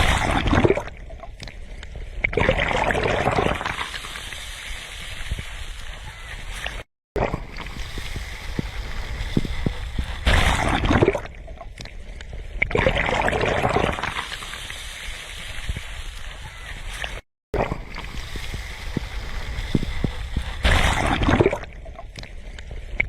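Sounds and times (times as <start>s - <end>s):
sea waves washing ashore: 2.6s - 11.6s, 13.0s - 23.0s.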